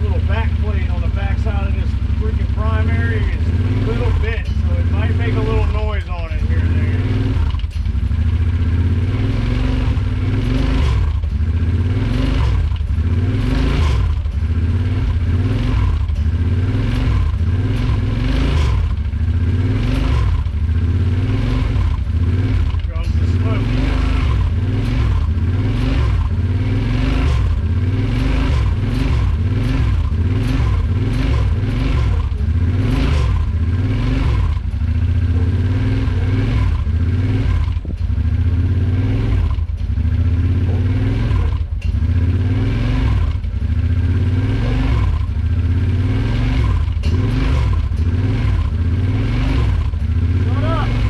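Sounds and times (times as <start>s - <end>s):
atv engine droning: 0.0s - 51.0s.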